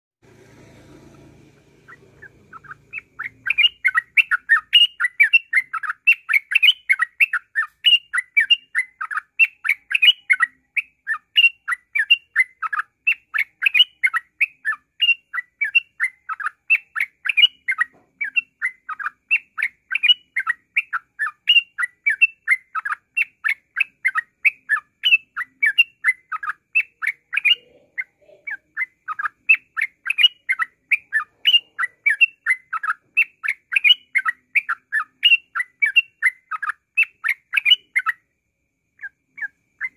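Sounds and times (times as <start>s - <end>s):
bird singing rapid chirps: 1.1s - 38.3s, 38.9s - 39.9s.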